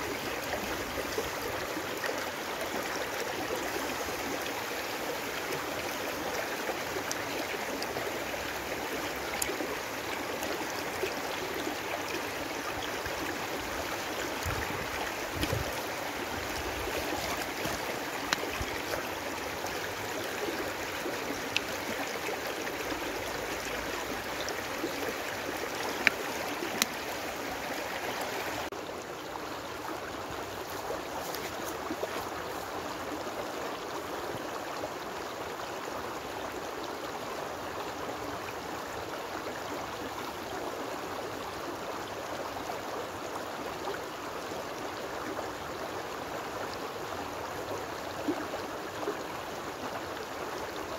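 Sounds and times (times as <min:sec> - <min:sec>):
stream rushing over stones: 0:00.0 - 0:50.9.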